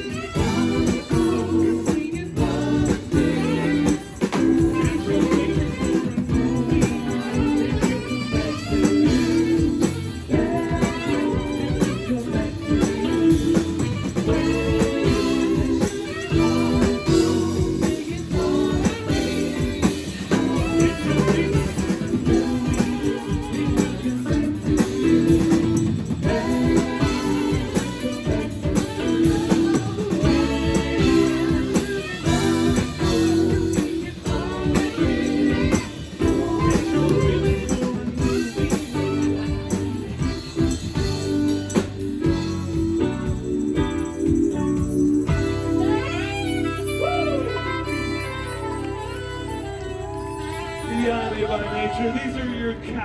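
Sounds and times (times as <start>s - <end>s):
bass and drum beat: 0.0s - 50.4s
person singing: 0.0s - 52.1s
guitar: 0.0s - 53.0s
live soft rock band: 0.0s - 53.0s.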